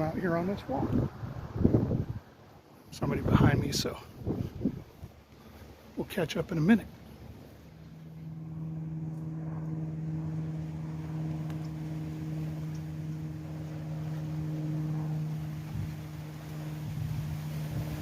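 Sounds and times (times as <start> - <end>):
steady engine drone: 0.0 - 18.0.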